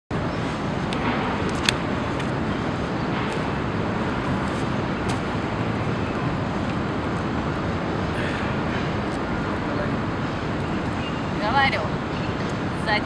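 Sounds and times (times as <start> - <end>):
city traffic din: 0.1 - 13.0.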